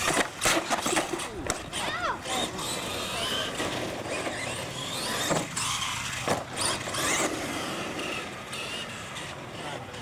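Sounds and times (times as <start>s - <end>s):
tyre noise on concrete: 0.0s - 8.8s
toy truck motor whining: 0.0s - 10.0s.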